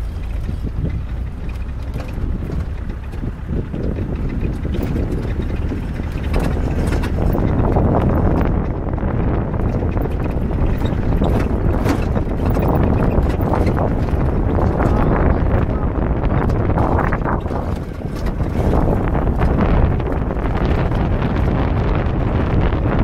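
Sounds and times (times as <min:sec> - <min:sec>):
jeep driving on dirt road: 0:00.0 - 0:23.0
vehicle knocks and rattles: 0:00.0 - 0:23.0
wind buffeting microphone: 0:00.0 - 0:23.0.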